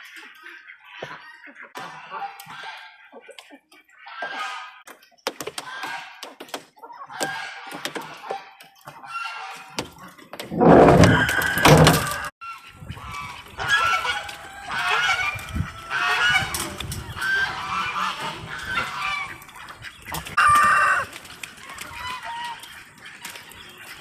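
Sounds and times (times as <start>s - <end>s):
geese honking: 0.0s - 4.9s, 6.8s - 24.0s.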